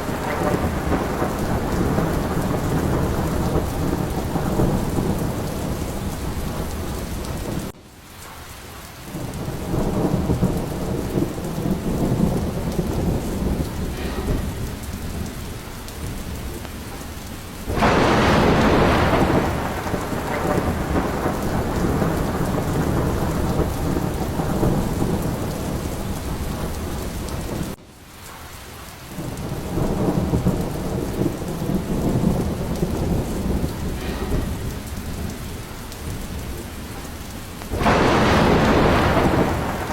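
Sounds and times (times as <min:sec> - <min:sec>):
loud thunderclap: 0:00.0 - 0:07.8, 0:09.1 - 0:27.8, 0:29.2 - 0:39.9
low rolling thunder: 0:00.0 - 0:07.8, 0:08.9 - 0:28.4, 0:29.1 - 0:39.9
steady rain: 0:00.0 - 0:39.9.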